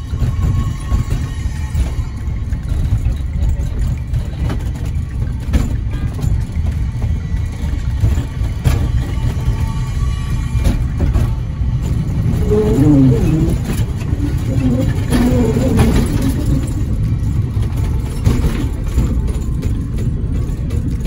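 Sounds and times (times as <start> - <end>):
knocks and rattles: 0.0 - 21.0
vehicle rumbling: 0.0 - 21.0.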